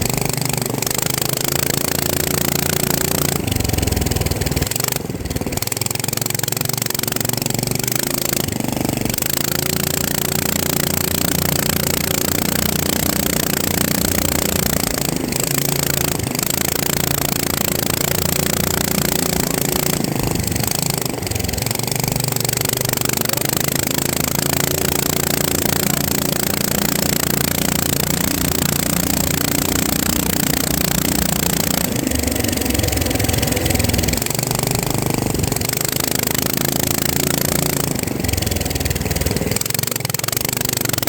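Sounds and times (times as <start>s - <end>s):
motor buzzing hum: 0.0s - 41.0s.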